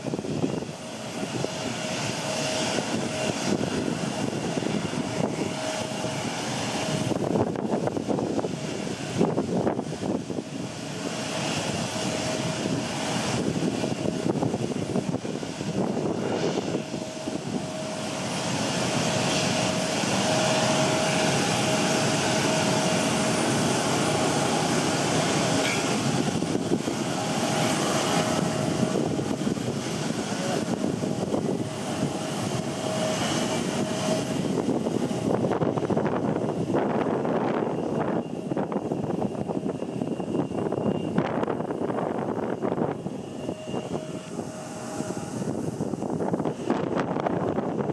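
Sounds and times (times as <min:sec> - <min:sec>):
jet engines whining and roaring: 0:00.0 - 0:47.9
wind buffeting microphone: 0:00.0 - 0:47.9.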